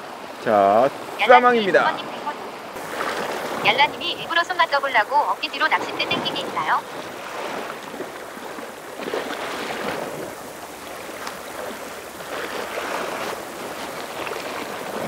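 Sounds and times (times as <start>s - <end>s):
seawater splashing against rocks: 0.0s - 15.0s.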